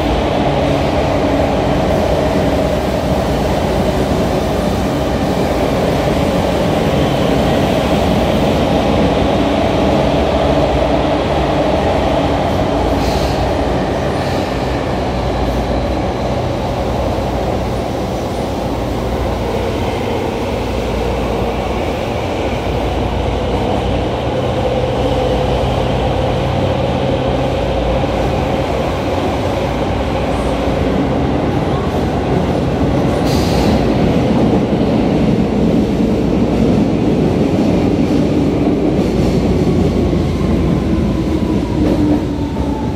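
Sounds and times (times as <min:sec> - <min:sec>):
train rumbling in tunnel: 0:00.0 - 0:42.9.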